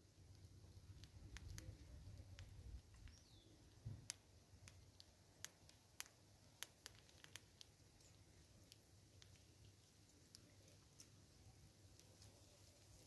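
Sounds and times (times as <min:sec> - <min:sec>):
squirrels cracking seeds: 0:00.0 - 0:13.0.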